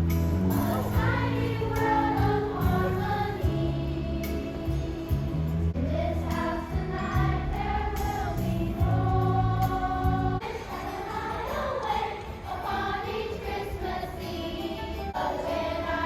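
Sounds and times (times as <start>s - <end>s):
choir singing: 0.5s - 16.0s.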